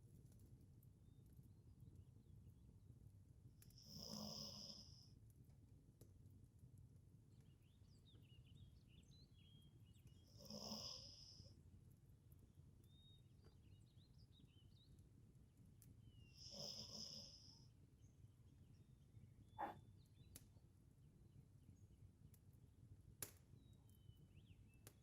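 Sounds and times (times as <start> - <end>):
low steady room hum: 0.0 - 25.0.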